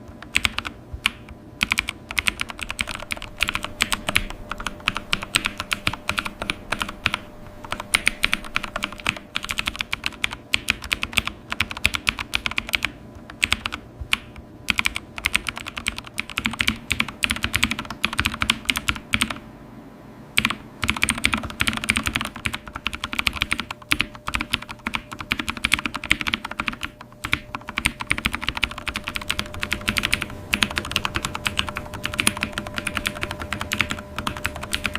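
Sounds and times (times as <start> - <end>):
typing on computer keyboard: 0.0 - 19.4, 20.4 - 34.9.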